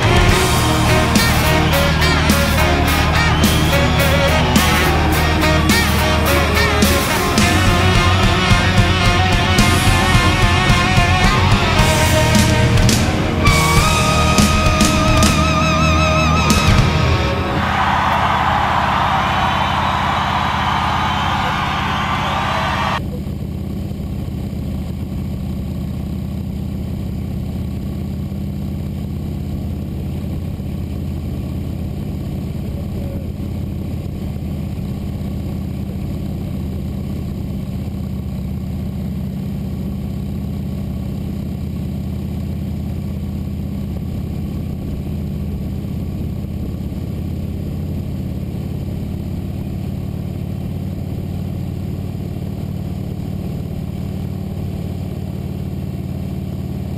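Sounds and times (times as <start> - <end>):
motorcycle engine running: 0.0 - 17.6, 23.0 - 56.9.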